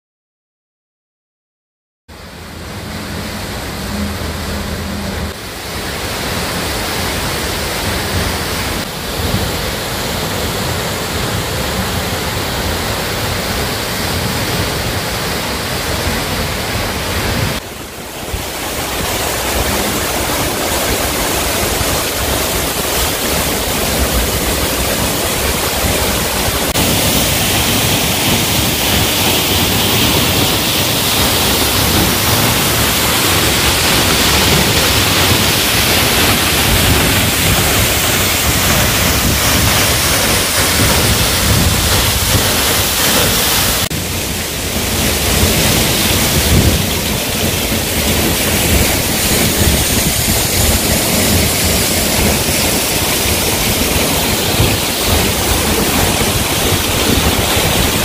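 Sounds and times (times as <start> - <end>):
waterfall rushing: 2.1 - 58.0.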